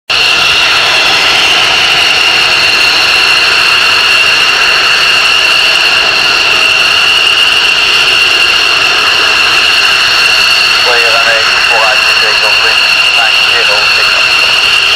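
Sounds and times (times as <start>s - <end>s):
jet engine turbine whine: 0.1s - 14.9s.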